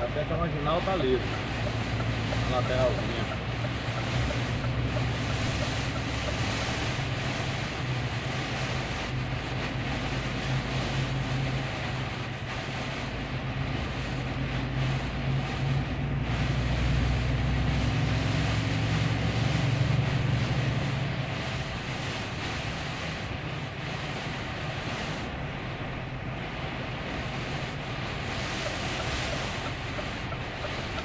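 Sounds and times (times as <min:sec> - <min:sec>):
diesel engine droning: 0:00.0 - 0:31.0
heavy rain on truck: 0:00.0 - 0:31.0.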